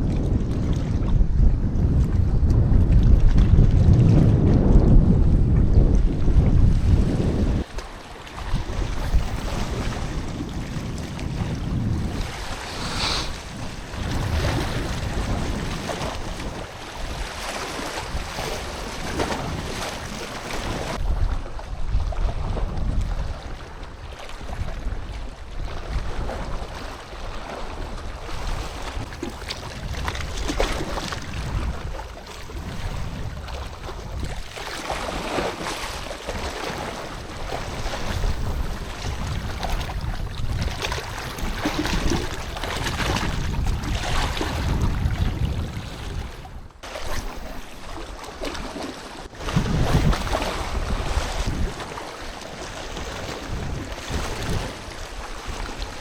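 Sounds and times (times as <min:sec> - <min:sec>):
wind buffeting microphone: 0:00.0 - 0:56.0
sea waves washing in: 0:06.2 - 0:21.2, 0:26.0 - 0:56.0.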